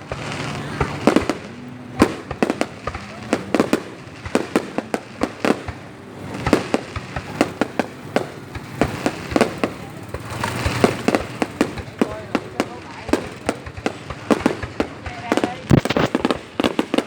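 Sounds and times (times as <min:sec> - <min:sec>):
fireworks bangs and cracks: 0:00.0 - 0:17.0
rumbling fireworks bursts: 0:00.0 - 0:17.0.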